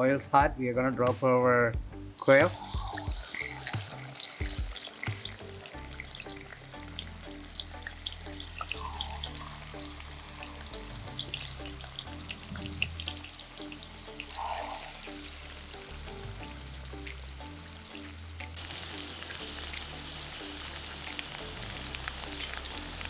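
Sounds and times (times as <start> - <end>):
quail deep-frying in hot oil: 2.2 - 23.0.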